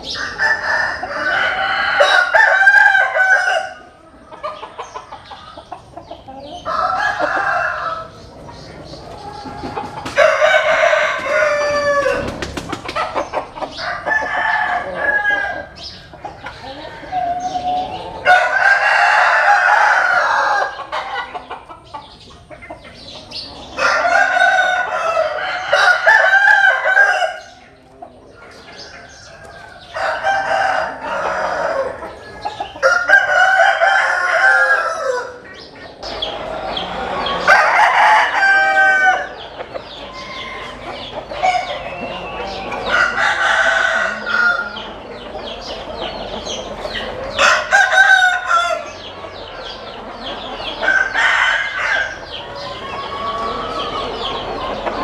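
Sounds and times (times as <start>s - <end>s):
roosters crowing: 0.0s - 55.0s.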